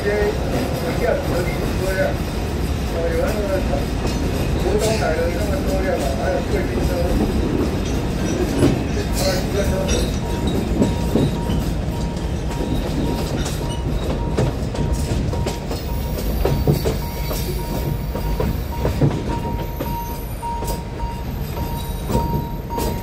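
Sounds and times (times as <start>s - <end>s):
clacks over rail joints: 0.0s - 23.0s
train wheels rumbling on rails: 0.0s - 23.0s.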